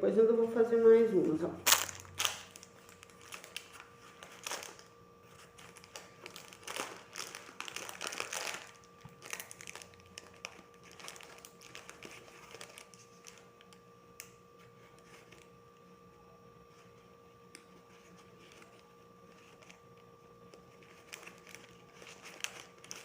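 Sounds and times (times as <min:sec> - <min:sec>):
craft materials crinkling and rustling: 0:01.4 - 0:15.8, 0:16.6 - 0:23.0.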